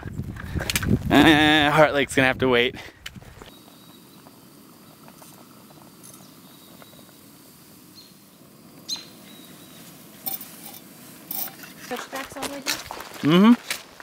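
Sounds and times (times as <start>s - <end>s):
stove hissing: 0.4s - 14.0s.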